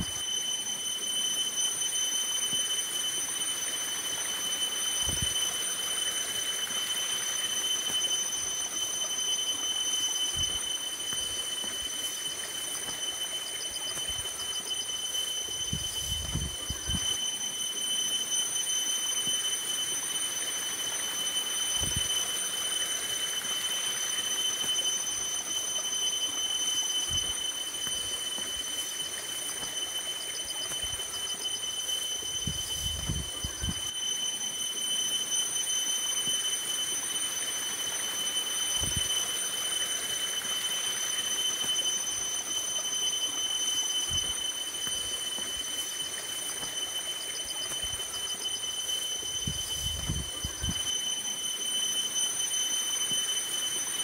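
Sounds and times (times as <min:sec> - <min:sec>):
steady high whine: 0:00.0 - 0:54.0.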